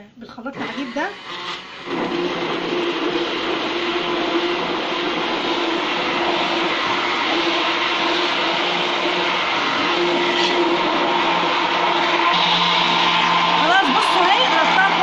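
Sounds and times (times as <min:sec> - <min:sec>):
immersion blender whizzing batter: 0:00.6 - 0:15.0.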